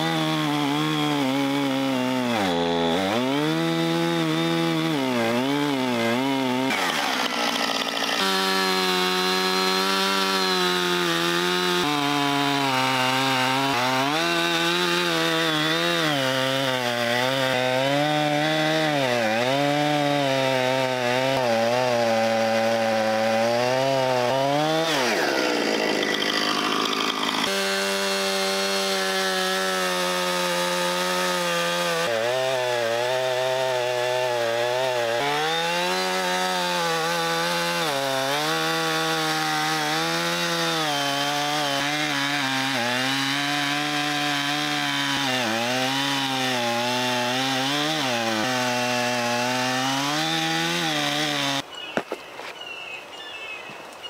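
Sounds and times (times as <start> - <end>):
chainsaw cutting log: 0.0 - 52.6.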